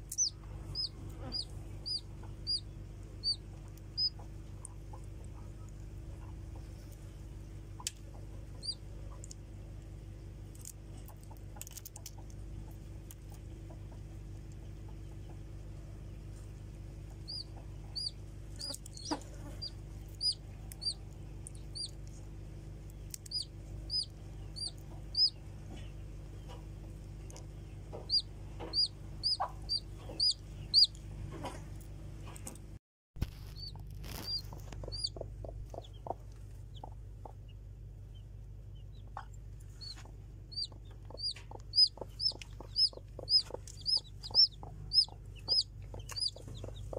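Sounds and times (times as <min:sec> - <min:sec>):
chicks peeping: 0:00.0 - 0:09.4, 0:10.6 - 0:31.7, 0:33.2 - 0:46.9
steady low hum: 0:00.0 - 0:46.9.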